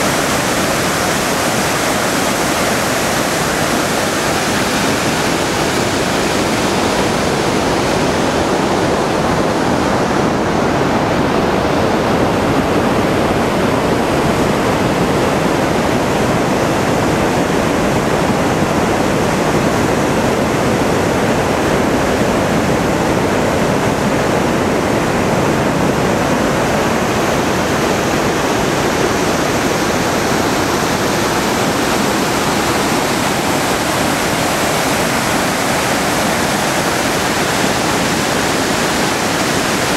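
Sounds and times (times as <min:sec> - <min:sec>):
mountain torrent rushing: 0:00.0 - 0:39.9.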